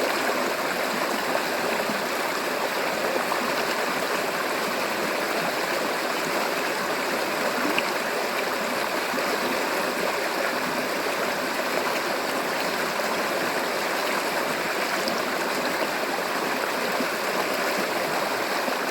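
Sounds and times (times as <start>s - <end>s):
river flowing over rocks: 0.0s - 18.9s.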